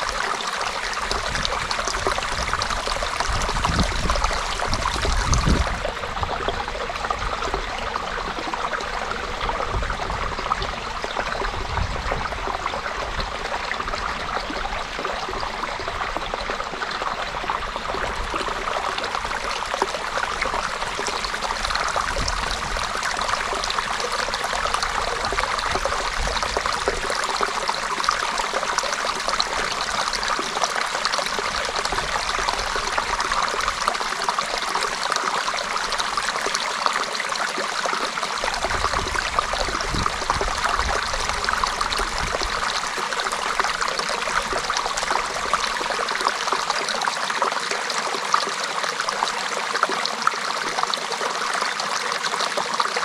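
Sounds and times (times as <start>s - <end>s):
creek water running: 0.0s - 53.0s.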